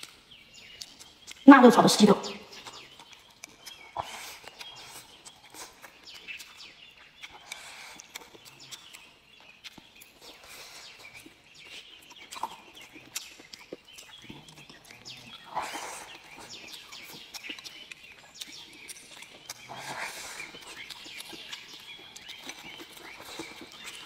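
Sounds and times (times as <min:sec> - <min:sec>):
birds calling: 0:00.0 - 0:24.0
chewing and lip-smacking: 0:00.0 - 0:24.0.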